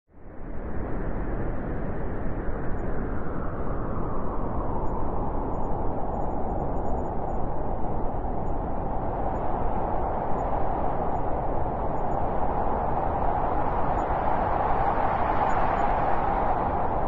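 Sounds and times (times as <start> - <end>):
wind whistling: 0.5 - 17.0
wind blowing: 1.2 - 17.0.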